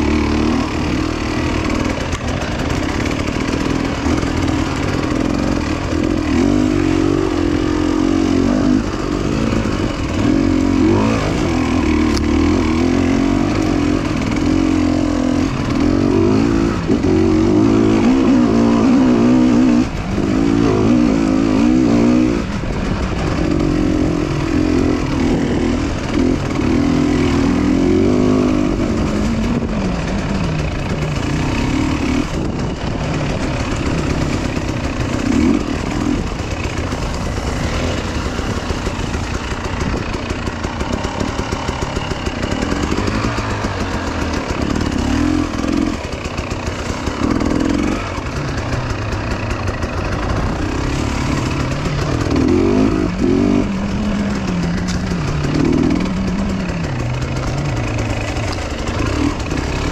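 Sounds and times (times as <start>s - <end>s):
motorcycle engine revving: 0.0s - 59.9s
steady rushing noise: 0.0s - 59.9s.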